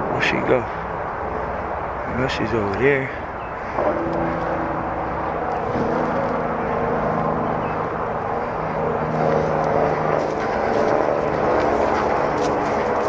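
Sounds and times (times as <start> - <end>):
outdoor background noise: 0.0 - 13.0
vehicle engine drone: 0.0 - 13.0.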